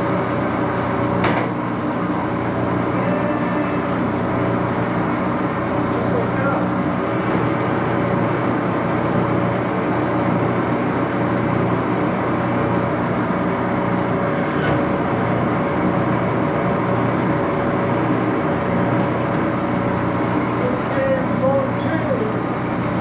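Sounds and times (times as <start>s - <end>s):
constant hum: 0.0s - 23.0s
lathe motor and gears whirring: 0.0s - 23.0s.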